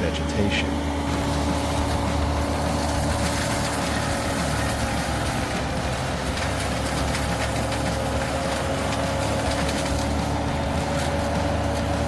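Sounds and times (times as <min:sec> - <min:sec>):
heavy engine rumbling: 0:00.0 - 0:12.0.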